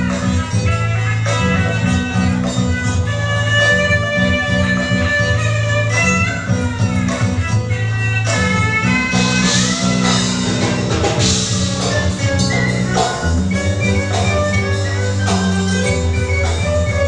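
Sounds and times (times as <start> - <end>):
held bass notes: 0.0 - 17.0
percussion: 0.0 - 17.0.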